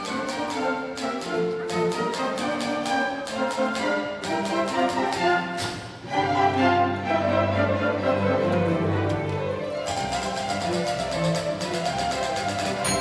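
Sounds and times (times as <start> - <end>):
orchestral strings: 0.0 - 13.0.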